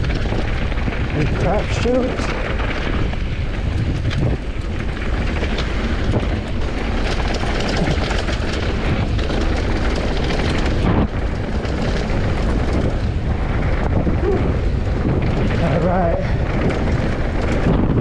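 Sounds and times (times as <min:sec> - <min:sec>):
bike rattling clicks: 0:00.0 - 0:18.0
tyres running over dirt and rock: 0:00.0 - 0:18.0
wind rumbling on microphone: 0:00.0 - 0:18.0.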